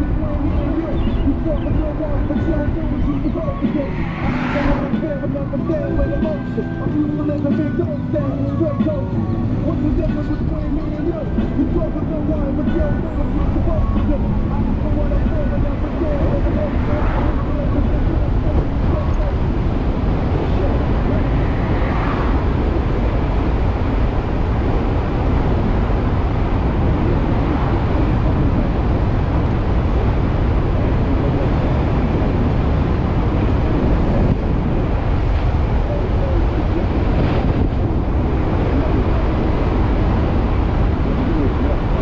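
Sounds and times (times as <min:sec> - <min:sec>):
road and tyre rumble: 0:00.0 - 0:42.0
wind rushing over microphone: 0:00.0 - 0:42.0.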